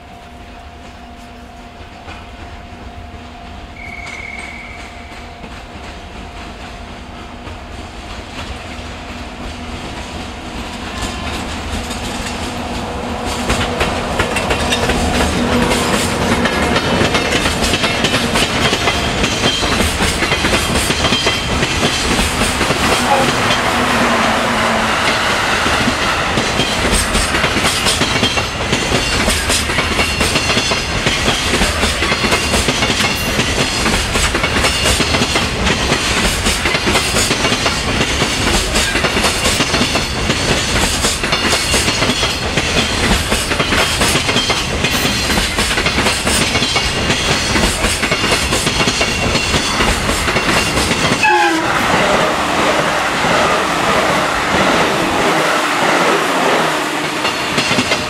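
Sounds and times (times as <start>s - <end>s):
train wheels clattering on rails: 0.8s - 58.0s.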